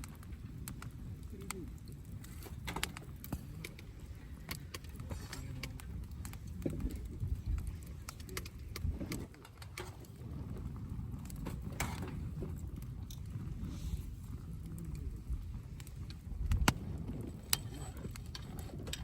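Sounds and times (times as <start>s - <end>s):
campfire crackling and popping: 0.0s - 19.0s
low fire rumble: 0.0s - 19.0s.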